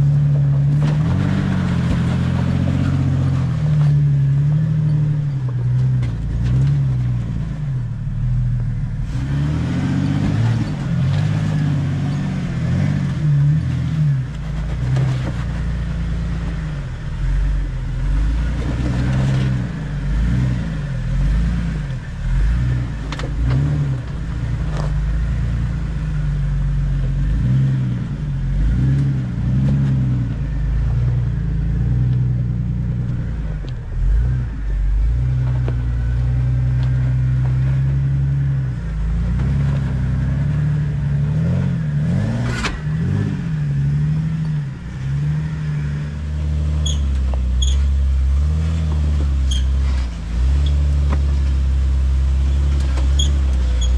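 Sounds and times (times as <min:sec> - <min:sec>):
engine revving up and down: 0:00.0 - 0:53.9.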